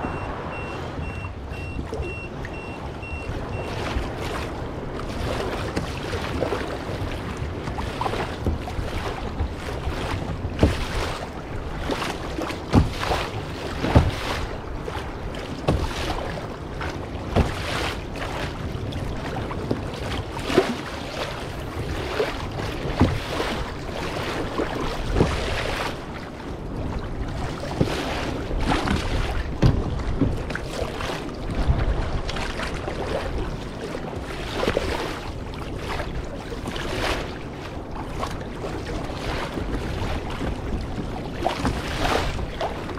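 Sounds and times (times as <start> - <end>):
short knocks on hull: 0.0 - 20.9, 21.5 - 26.1, 26.8 - 33.4, 39.5 - 42.9
water splashing against kayak hull: 0.0 - 42.9
wind buffeting microphone: 0.0 - 42.9.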